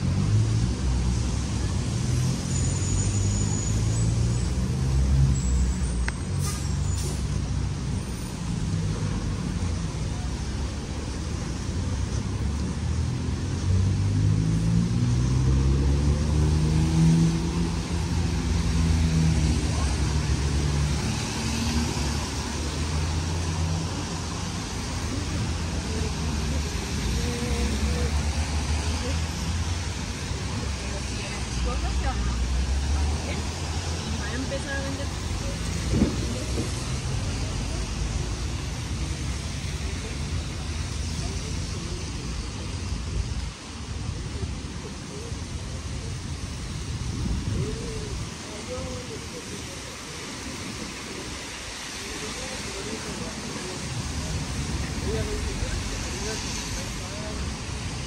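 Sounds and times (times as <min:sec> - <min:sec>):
traffic engine rumble: 0:00.0 - 0:58.0
tyre hiss on wet road: 0:00.0 - 0:58.0.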